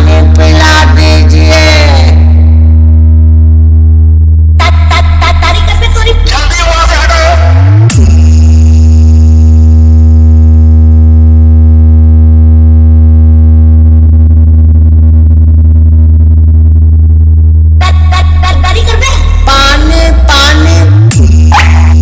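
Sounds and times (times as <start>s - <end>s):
deep synthesized bass tone: 0.0s - 22.0s.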